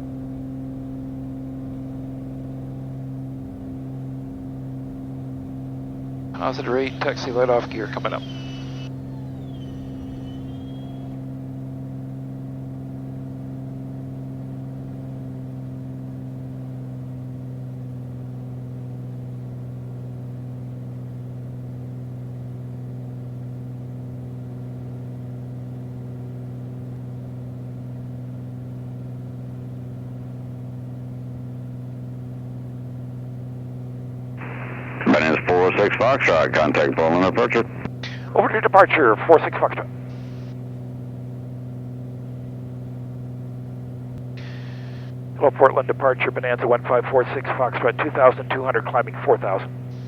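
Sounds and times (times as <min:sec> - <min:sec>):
propeller plane engine droning: 0:00.0 - 0:50.0.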